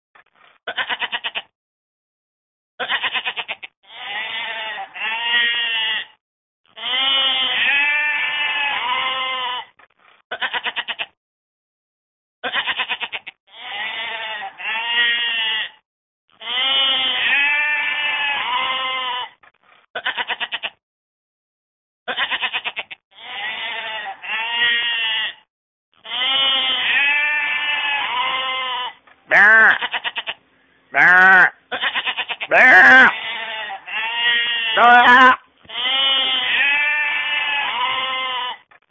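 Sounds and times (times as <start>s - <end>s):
livestock bleating: 0.7s - 1.5s, 2.8s - 11.2s, 12.4s - 19.4s, 20.0s - 20.8s, 22.1s - 38.7s.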